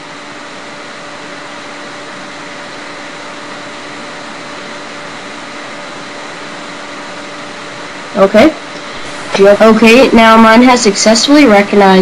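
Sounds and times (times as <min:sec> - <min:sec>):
faint constant hum: 0:00.0 - 0:12.0
steady background hiss: 0:00.0 - 0:12.0.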